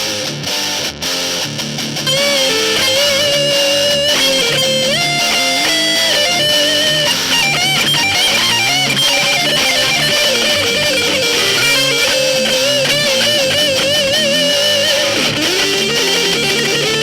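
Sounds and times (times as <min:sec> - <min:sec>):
chugging rhythm guitar: 0:00.0 - 0:17.0
distorted lead guitar melody: 0:00.0 - 0:17.0.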